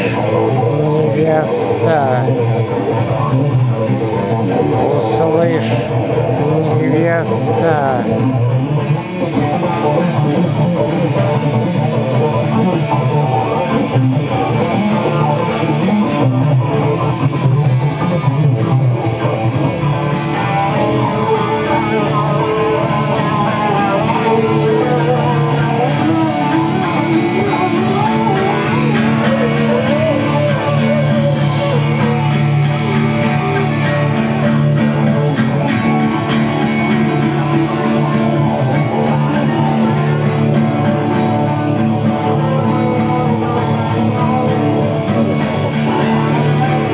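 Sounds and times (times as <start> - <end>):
acoustic guitar: 0.0 - 46.9
electric guitar: 0.0 - 46.9.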